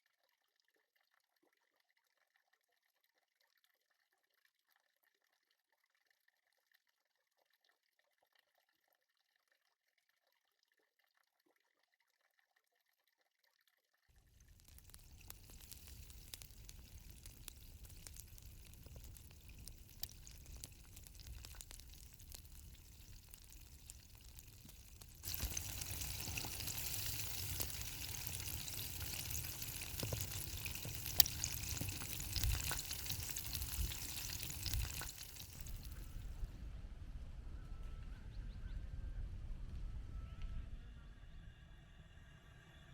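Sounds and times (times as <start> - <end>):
chicken frying in hot oil: 0.0 - 36.5.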